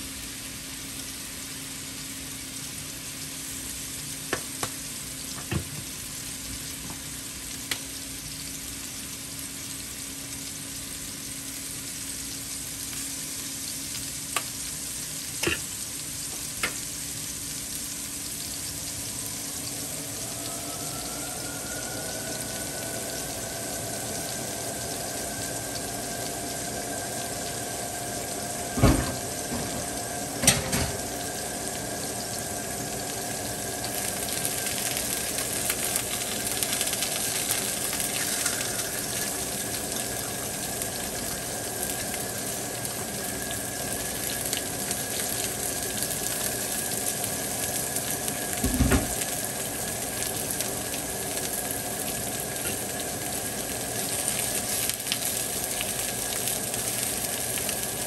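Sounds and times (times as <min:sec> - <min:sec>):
fish sizzling on a griddle: 0:00.0 - 0:58.0.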